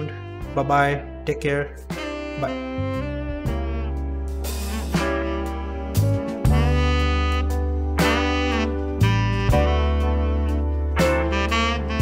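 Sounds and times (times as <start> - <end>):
bass line: 0.0 - 12.0
jazz guitar: 1.8 - 12.0.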